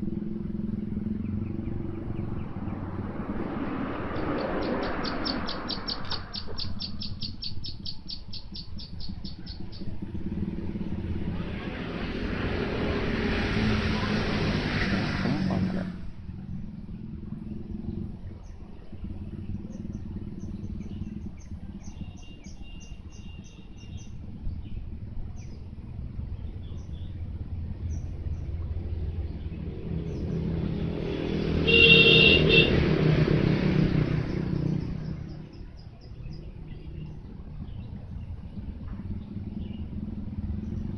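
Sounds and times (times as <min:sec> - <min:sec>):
birds chirping: 0:00.0 - 0:40.9
vehicles passing: 0:00.0 - 0:40.9.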